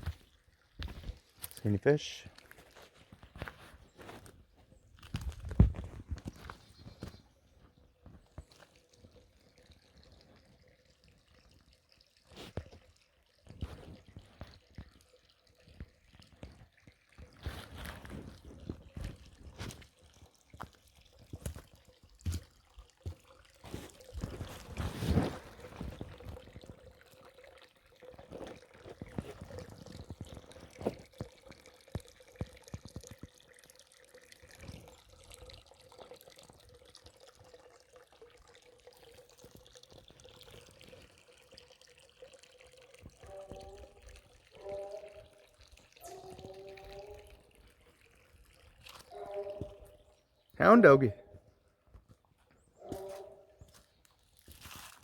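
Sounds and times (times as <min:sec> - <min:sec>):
creek water trickling: 0:00.0 - 0:55.0.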